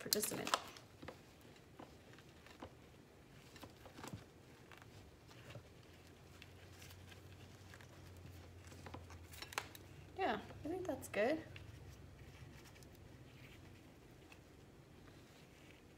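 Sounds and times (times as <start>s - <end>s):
faint low hum: 0.0s - 15.9s
soil ticks and rustles: 0.0s - 15.9s.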